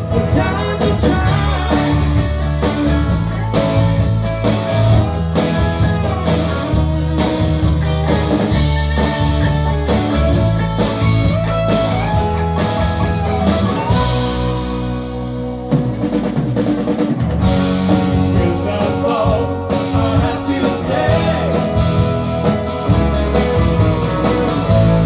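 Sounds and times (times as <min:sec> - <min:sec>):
bass guitar: 0:00.0 - 0:25.0
steady drum beat: 0:00.0 - 0:25.0
lead electric guitar melody: 0:01.2 - 0:16.2, 0:19.4 - 0:25.0.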